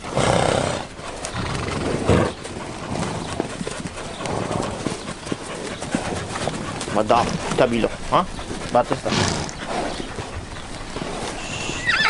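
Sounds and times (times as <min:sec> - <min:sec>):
horse hooves clopping: 0:00.0 - 0:12.0.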